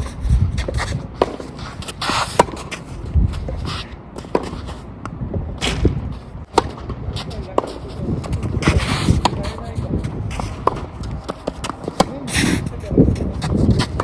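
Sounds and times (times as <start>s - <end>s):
wind buffeting microphone: 0.0s - 14.0s
racket hitting tennis ball: 0.5s - 14.0s.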